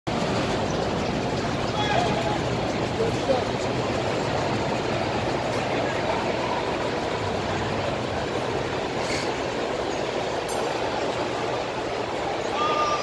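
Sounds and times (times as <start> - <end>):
dense crowd hubbub: 0.1 - 13.0.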